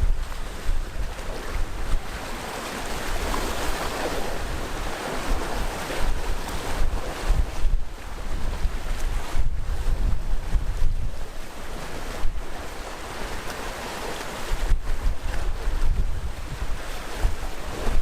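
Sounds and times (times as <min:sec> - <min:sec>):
wind buffeting microphone: 0:00.0 - 0:13.3, 0:14.4 - 0:18.0
waves washing onto rocky shore: 0:00.0 - 0:18.0.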